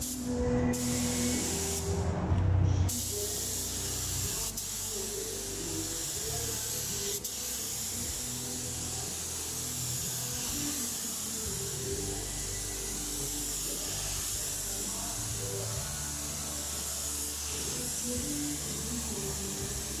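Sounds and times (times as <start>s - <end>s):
paint spray gun hissing: 0.0s - 1.9s, 2.9s - 20.0s
background music: 0.0s - 20.0s.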